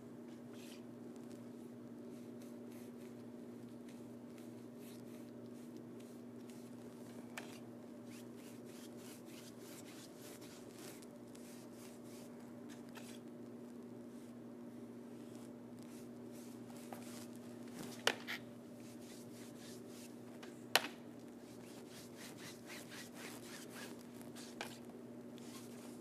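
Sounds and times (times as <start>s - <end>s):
low electrical hum: 0.0s - 26.0s
paintbrush scratching strokes: 1.5s - 13.2s, 15.1s - 20.2s, 21.4s - 24.8s, 25.4s - 26.0s.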